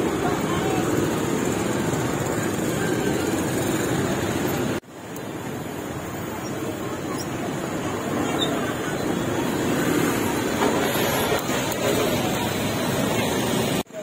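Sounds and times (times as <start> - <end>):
people's voices: 0.0 - 4.8, 6.2 - 14.0
traffic and motorbike noise: 0.0 - 14.0.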